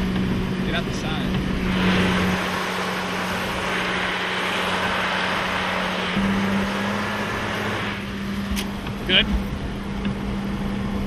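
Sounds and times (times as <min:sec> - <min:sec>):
truck engine humming: 0:00.0 - 0:11.0
dense rushing noise: 0:00.5 - 0:09.4.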